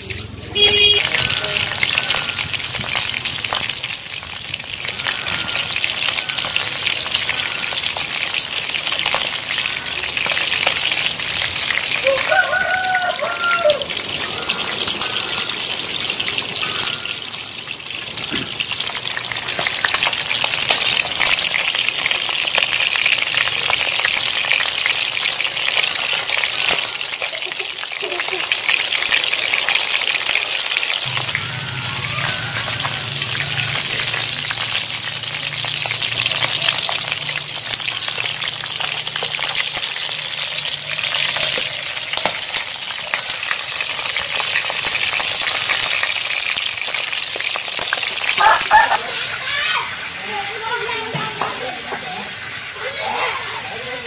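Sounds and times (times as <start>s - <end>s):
meat frying in hot oil: 0.0s - 54.0s.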